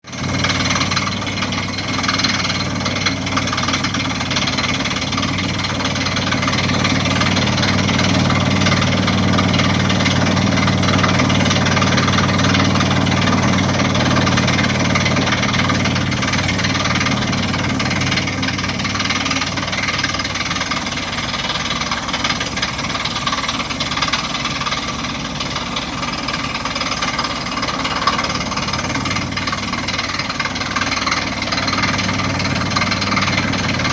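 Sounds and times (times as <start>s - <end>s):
drilling rig engine drone: 0.0s - 33.9s
noisy rattle of drilling rig: 0.0s - 33.9s.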